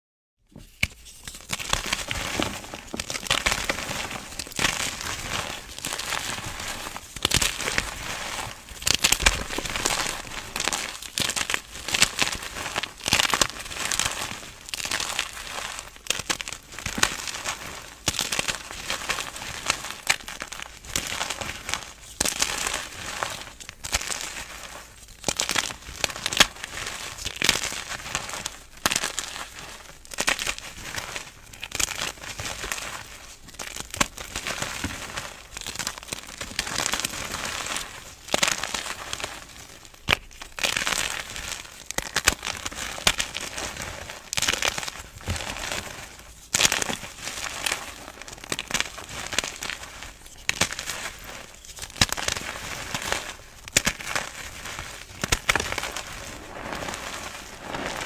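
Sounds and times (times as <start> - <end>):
dry material being crunched: 0.8 - 58.0.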